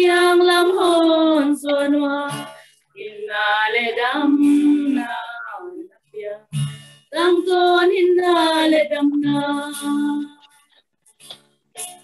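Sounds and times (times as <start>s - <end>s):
women singing together: 0.0s - 6.6s, 7.2s - 10.4s.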